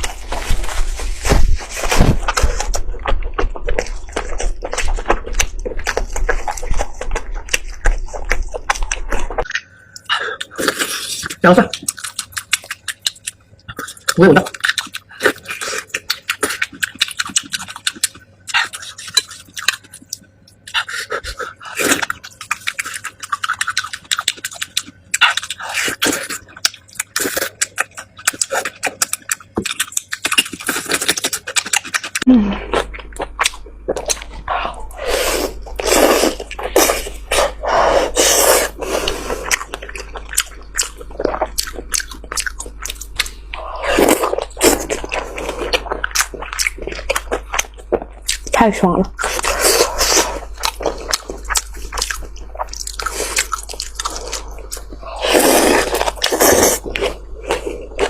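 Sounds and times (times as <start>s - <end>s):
steady low hum: 0.0s - 58.0s
wet chewing and smacking: 2.0s - 58.0s.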